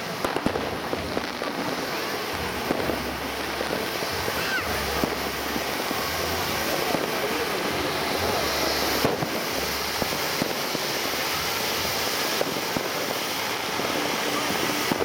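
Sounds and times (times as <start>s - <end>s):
crackling pops: 0.0s - 15.0s
firework fountain hissing: 0.0s - 15.0s.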